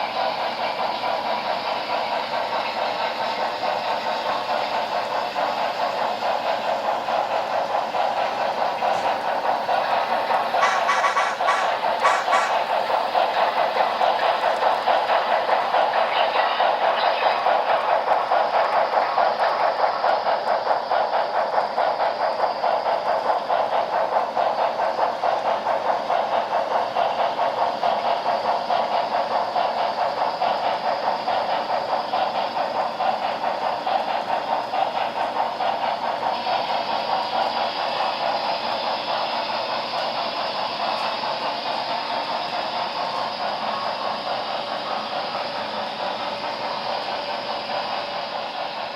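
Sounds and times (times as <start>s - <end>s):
model steam locomotive chuffing: 0.0s - 48.9s
steam hiss: 0.0s - 48.9s.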